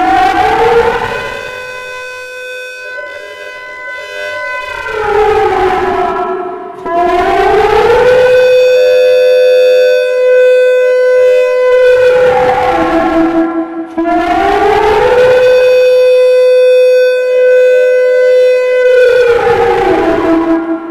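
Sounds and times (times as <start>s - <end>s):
wailing siren: 0.0s - 20.9s.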